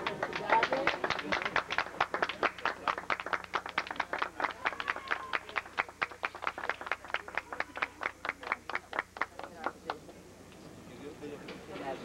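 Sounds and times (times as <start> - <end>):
people clapping: 0.0 - 10.2.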